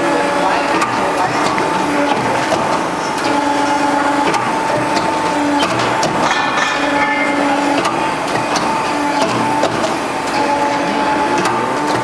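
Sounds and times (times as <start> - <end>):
crimping machine clatter: 0.0 - 12.0
pitched machine hum: 0.0 - 12.0.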